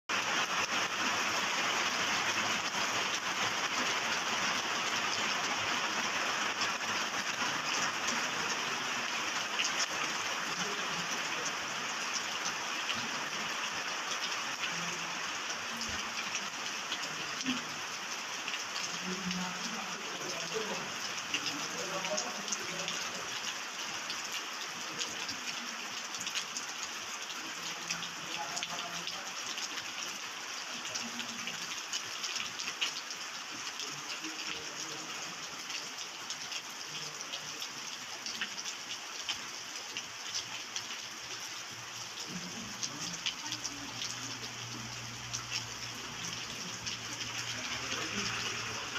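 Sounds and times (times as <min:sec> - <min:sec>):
steady rain falling: 0:00.1 - 0:48.9.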